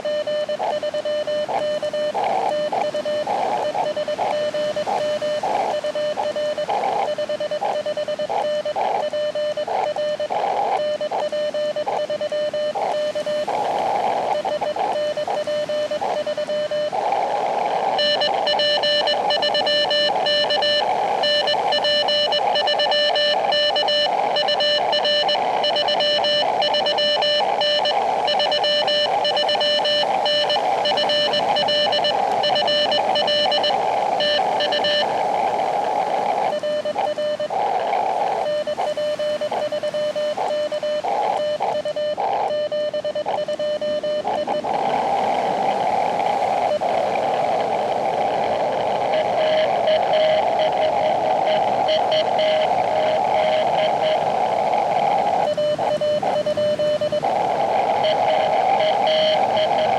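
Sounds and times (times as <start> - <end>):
morse code beep tone: 0.0 - 59.9
radio band hiss: 0.0 - 59.9.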